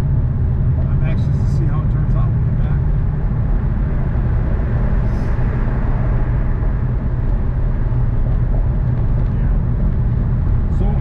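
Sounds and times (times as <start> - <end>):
car driving in tunnel: 0.0 - 11.0.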